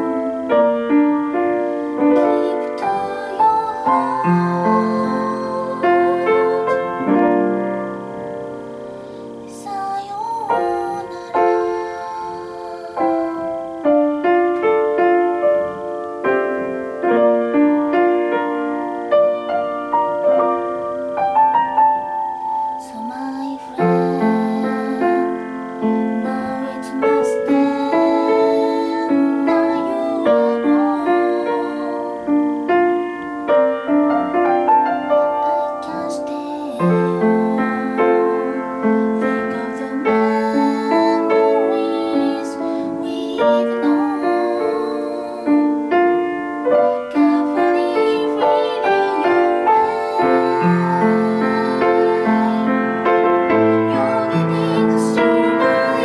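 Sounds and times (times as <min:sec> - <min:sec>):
piano playing melody: 0:00.0 - 0:56.0.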